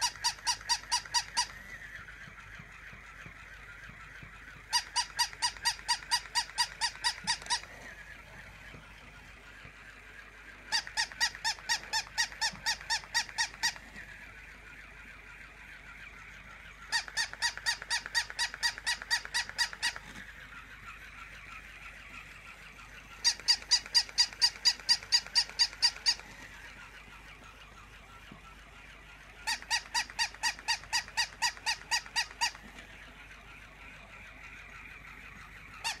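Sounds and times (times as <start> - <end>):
toy dog electronic yapping: 0.0 - 36.0
toy motor whirring: 0.0 - 36.0.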